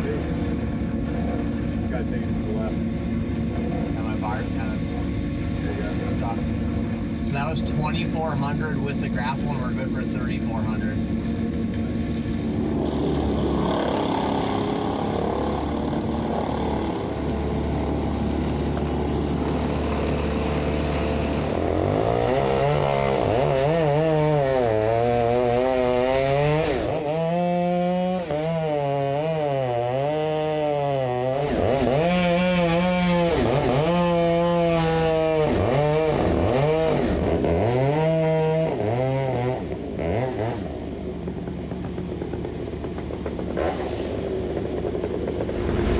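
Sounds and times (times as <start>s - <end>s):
engine hum: 0.0s - 28.4s, 31.4s - 45.9s
chainsaw cutting wood: 0.0s - 45.9s.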